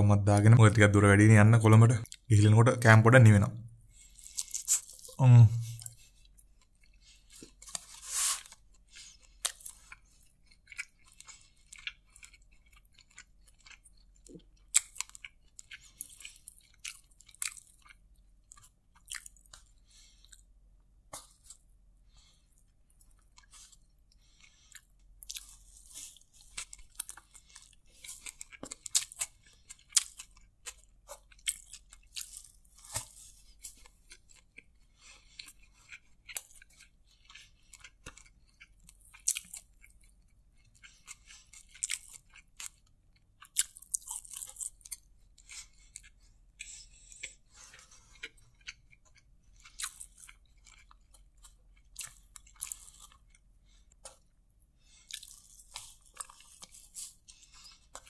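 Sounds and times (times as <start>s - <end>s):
chewing: 3.9s - 58.0s.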